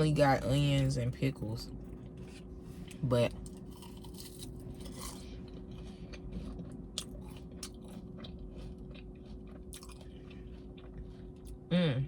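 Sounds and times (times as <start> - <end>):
person chewing crunchy food: 1.8 - 11.7.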